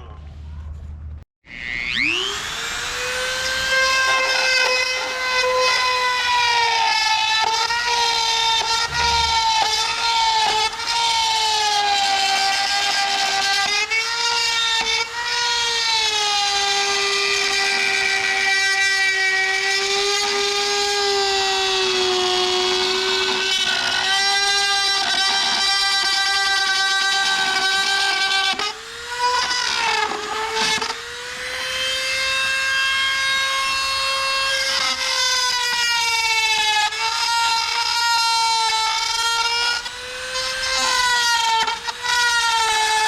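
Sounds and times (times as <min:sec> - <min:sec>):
power tool motor whining: 0:01.5 - 0:43.0.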